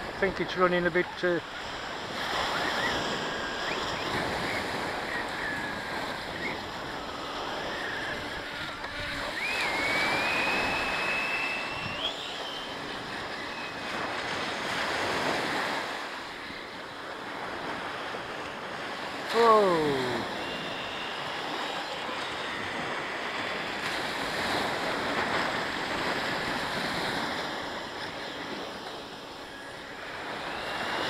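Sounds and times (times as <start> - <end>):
waves breaking on beach: 0.0 - 31.0
faint high whine: 0.1 - 31.0.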